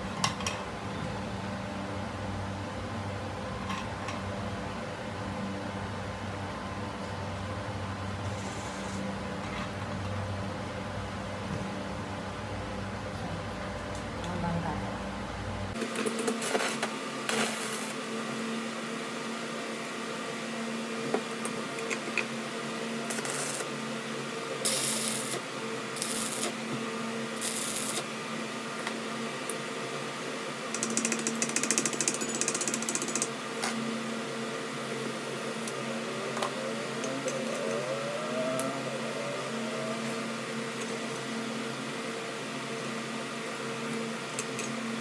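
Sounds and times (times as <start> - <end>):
workshop machine humming: 0.0 - 45.0.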